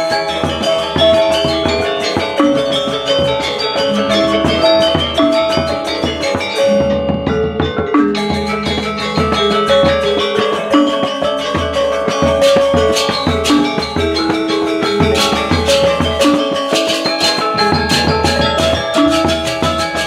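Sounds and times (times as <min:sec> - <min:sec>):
hand drums: 0:00.0 - 0:20.0
metallophones ringing a melody: 0:00.0 - 0:20.0.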